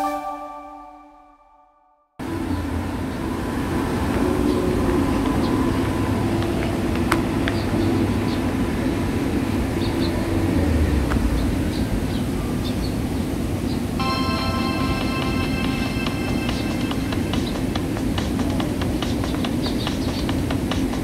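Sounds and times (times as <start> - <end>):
distant traffic rumble: 2.2 - 21.0.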